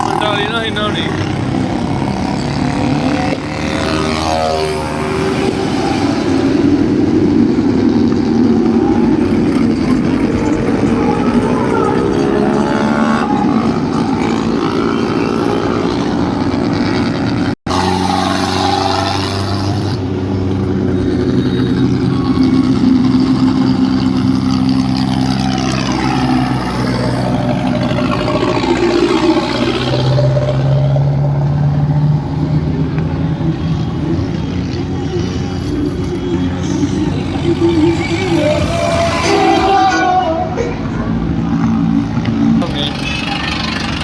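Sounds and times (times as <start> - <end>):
tractor engines revving: 0.0 - 44.0.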